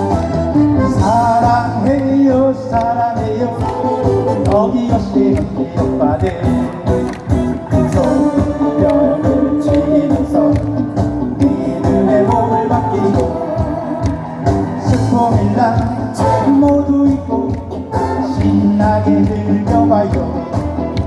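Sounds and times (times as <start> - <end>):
backing music with steady beat: 0.0 - 21.0
person singing: 0.0 - 21.0.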